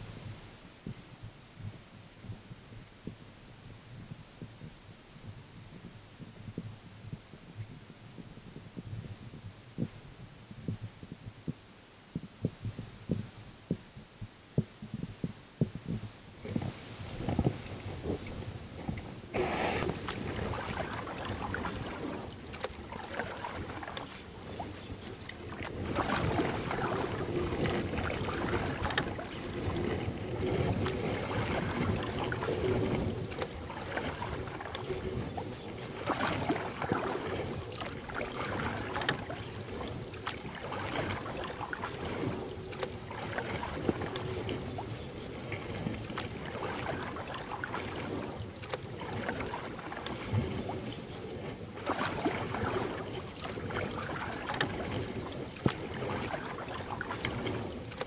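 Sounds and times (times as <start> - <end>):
paddle strokes in water: 0.0 - 58.0
wind on microphone: 0.0 - 58.0.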